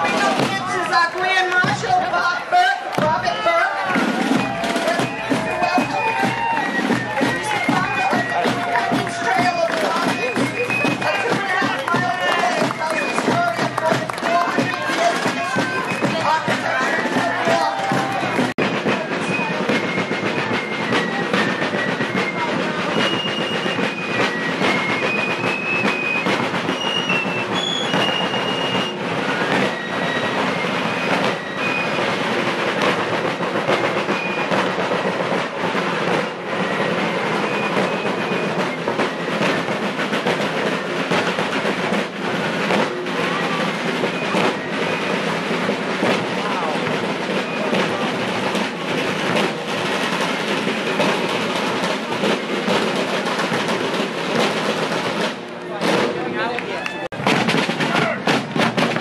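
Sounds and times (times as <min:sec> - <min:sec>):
drum strokes and rolls: 0:00.0 - 0:59.0
fife melody: 0:04.1 - 0:56.3.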